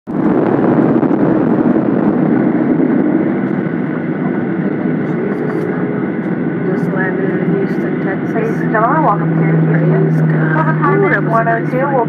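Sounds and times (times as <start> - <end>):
airliner cabin engine noise: 0.1 - 12.0.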